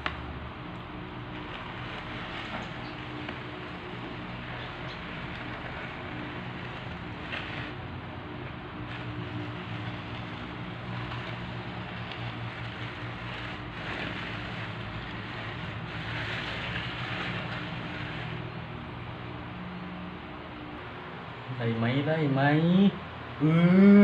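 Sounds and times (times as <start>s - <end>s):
motor hum: 0.0s - 21.5s.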